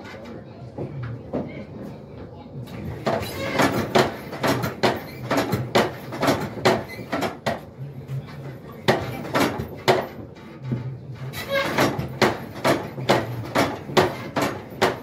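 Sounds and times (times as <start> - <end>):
forge bellows creaking and knocking: 2.7 - 15.0.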